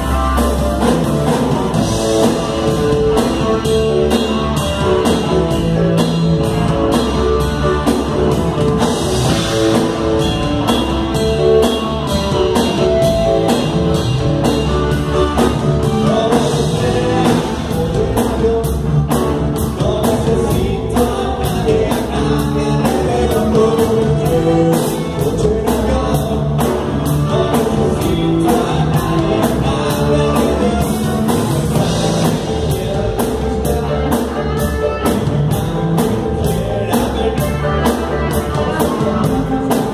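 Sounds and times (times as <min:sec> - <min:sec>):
bass guitar: 0:00.0 - 0:39.9
drum kit beat: 0:00.0 - 0:39.9
electric guitar: 0:00.0 - 0:39.9
person singing: 0:02.1 - 0:39.9.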